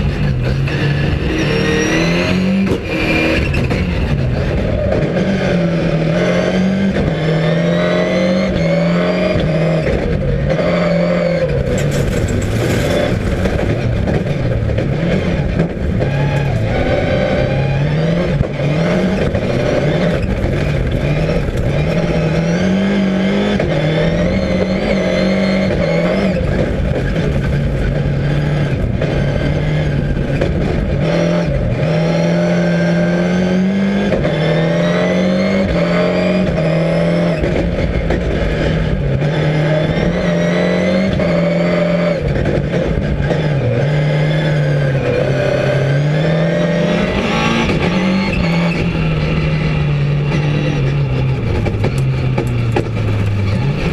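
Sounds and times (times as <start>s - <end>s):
car engine revving hard: 0.0s - 53.9s.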